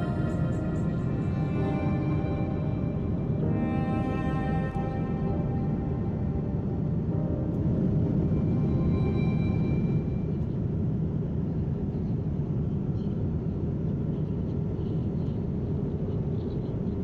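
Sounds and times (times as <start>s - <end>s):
moving vehicle low rumble: 0.0s - 17.0s.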